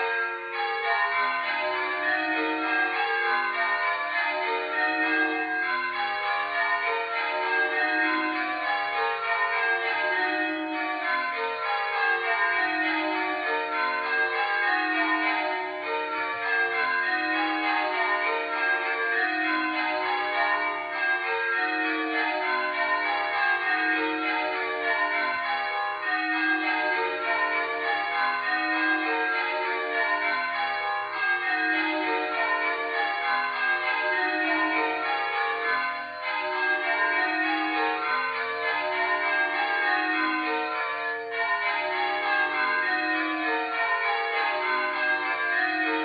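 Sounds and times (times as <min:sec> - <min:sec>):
church bells change ringing: 0:00.0 - 0:46.0.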